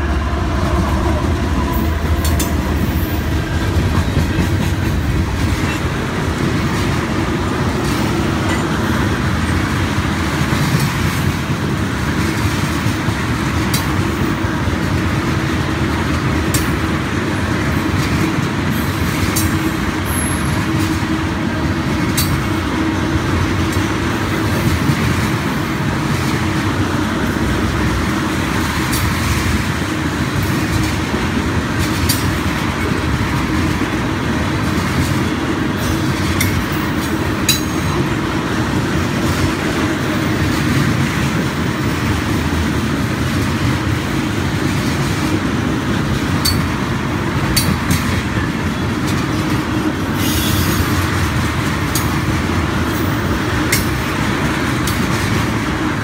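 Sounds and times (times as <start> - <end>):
train wheels rumbling on rails: 0.0 - 56.0
wheels clicking over rail joints: 0.1 - 56.0.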